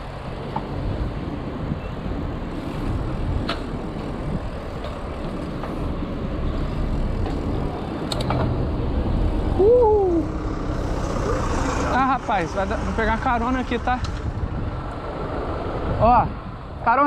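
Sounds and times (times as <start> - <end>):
tyres rolling on asphalt: 0.0 - 17.0
wind rushing over microphone: 0.0 - 17.0.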